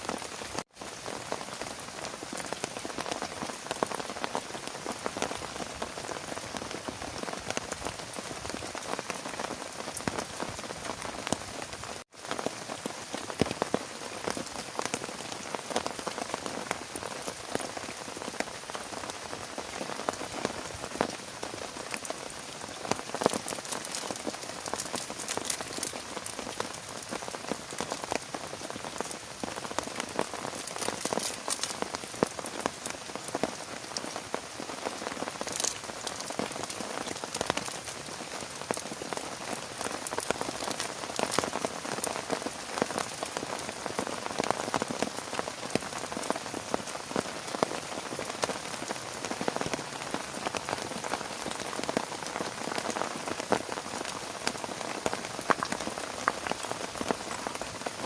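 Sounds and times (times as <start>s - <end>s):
heavy rain falling: 0.0s - 58.0s
raindrops striking a surface: 0.0s - 58.0s.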